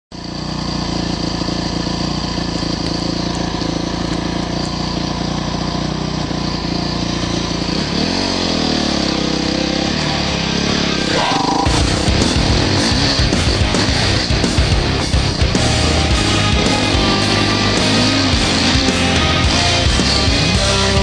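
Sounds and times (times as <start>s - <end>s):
motocross bike engine: 0.1s - 21.0s.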